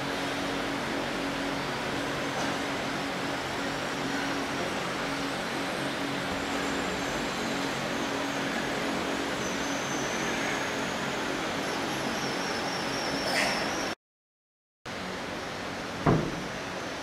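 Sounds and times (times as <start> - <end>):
faint high whine: 0.0 - 14.0
machine hum with hiss: 0.0 - 14.0, 14.9 - 17.0.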